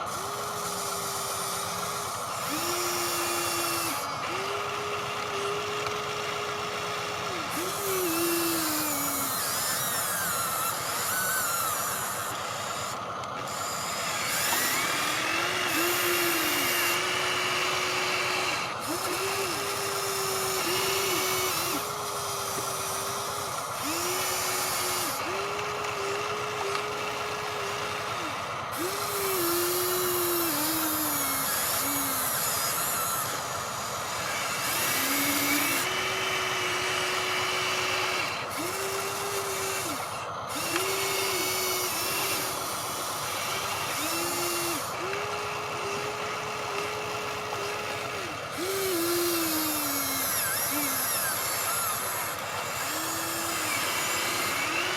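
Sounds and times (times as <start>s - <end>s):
small electric motors whining: 0.0s - 54.9s.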